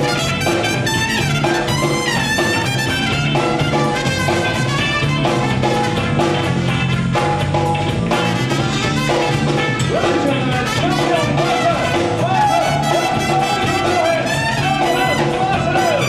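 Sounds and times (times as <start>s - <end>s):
horn line bending in pitch: 0.0s - 6.6s, 8.1s - 16.0s
horn section playing chords: 0.0s - 7.3s, 8.1s - 16.0s
bass: 0.0s - 16.0s
drum kit: 0.0s - 16.0s.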